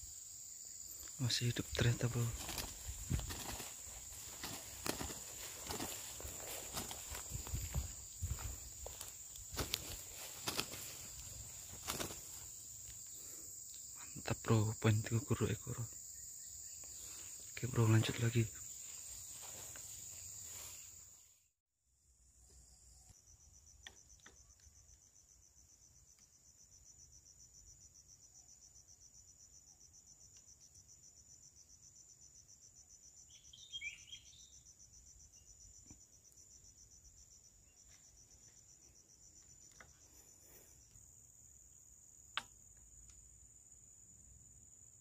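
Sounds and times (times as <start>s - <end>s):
insects trilling: 0.0s - 21.4s, 22.0s - 45.0s.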